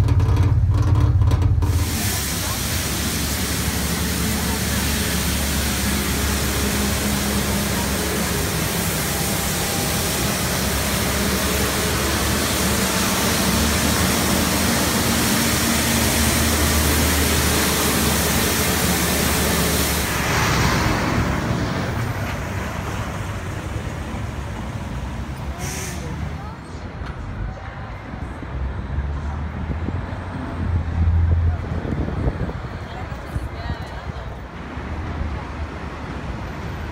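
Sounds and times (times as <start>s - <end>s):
street sweeper roaring: 0.0s - 36.9s
traffic noise: 0.0s - 36.9s.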